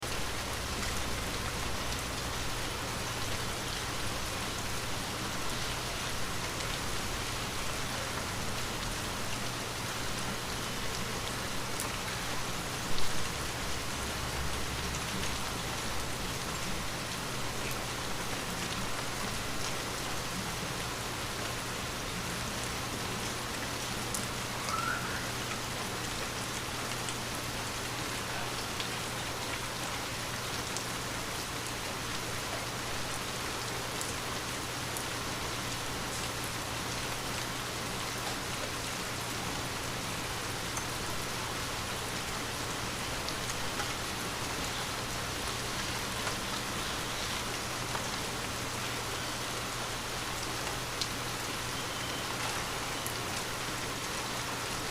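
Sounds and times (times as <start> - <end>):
light rain on foliage: 0.0 - 54.9.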